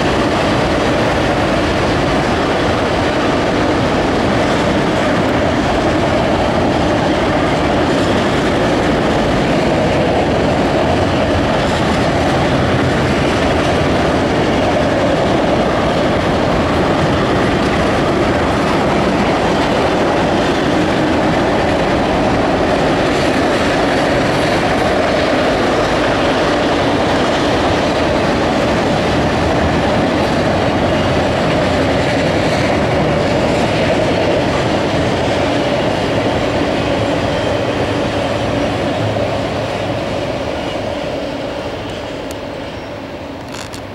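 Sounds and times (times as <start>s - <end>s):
steel wheels rumbling on rails: 0.0s - 43.9s.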